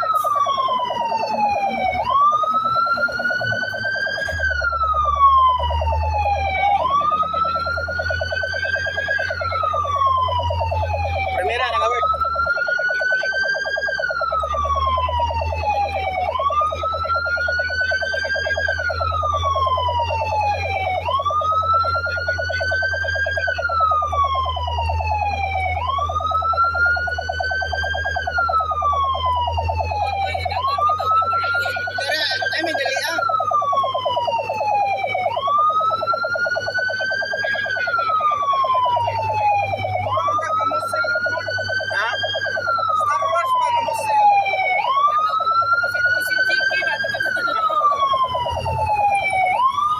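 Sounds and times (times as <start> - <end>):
fire truck siren wailing: 0.0 - 49.9.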